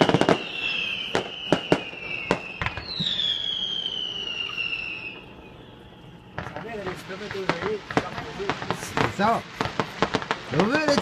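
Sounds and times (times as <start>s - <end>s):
firework bangs: 0.0s - 5.2s, 6.3s - 11.0s
falling firework whistle: 0.0s - 11.0s.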